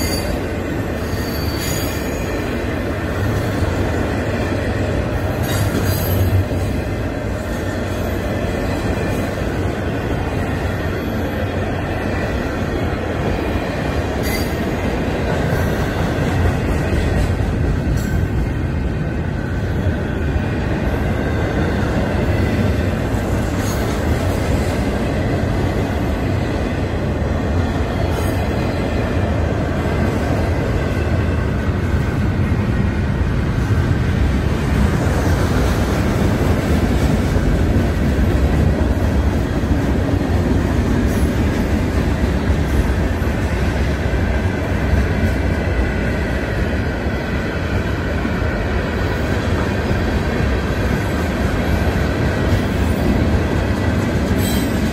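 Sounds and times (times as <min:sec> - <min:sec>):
train wheels clattering on rail: 0:00.0 - 0:54.9.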